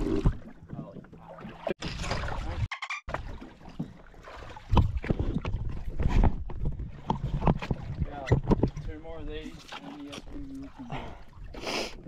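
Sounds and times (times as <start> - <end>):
wind and water noise: 0.0 - 12.0.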